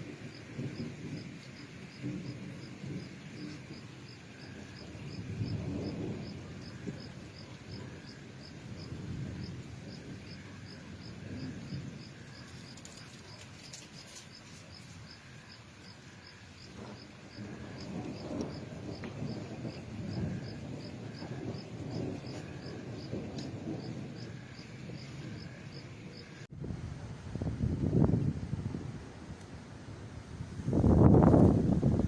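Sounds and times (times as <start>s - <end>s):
cricket chirping: 0.0s - 26.5s
distant thunder rumbling: 0.0s - 26.5s.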